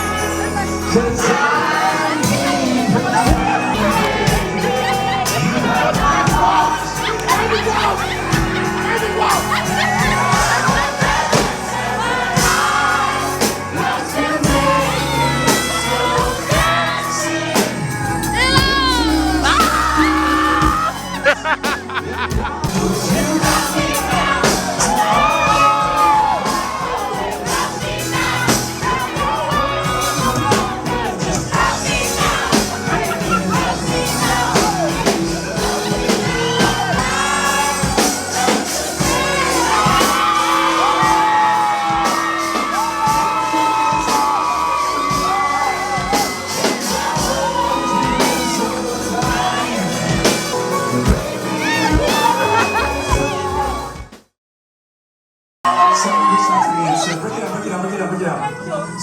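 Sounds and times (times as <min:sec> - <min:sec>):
person singing with live band: 0:00.0 - 0:54.0
audience whooping: 0:00.0 - 0:54.1, 0:55.7 - 0:57.7.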